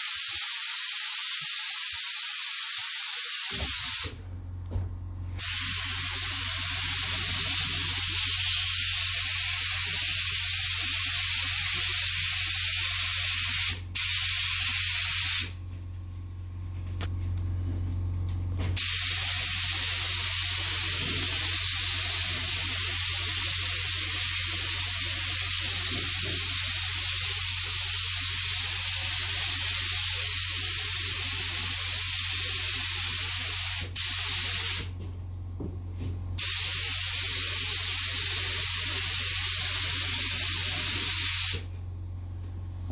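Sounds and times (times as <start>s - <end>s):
spray gun hissing: 0.0s - 4.2s, 5.4s - 15.6s, 18.8s - 34.9s, 36.4s - 41.7s
steady low hum: 3.5s - 42.9s.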